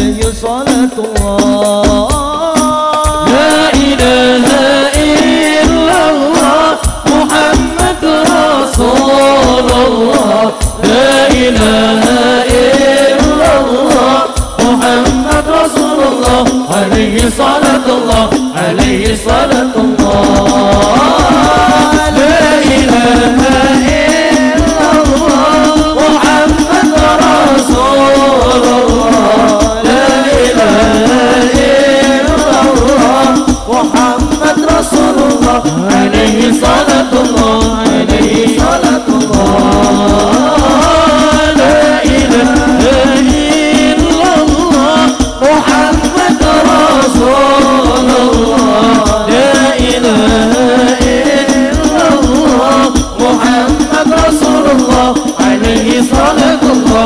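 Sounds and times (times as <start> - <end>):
fast frame drum beats: 0.0 - 57.0
men singing into microphones: 0.0 - 57.0.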